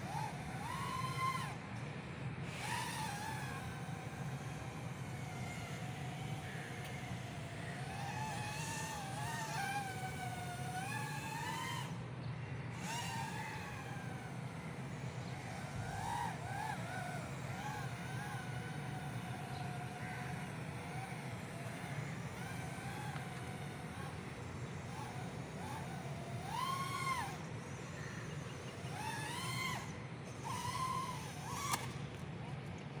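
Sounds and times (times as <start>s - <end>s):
quadcopter motors whining: 0.0s - 33.0s
steady low hum: 0.0s - 33.0s.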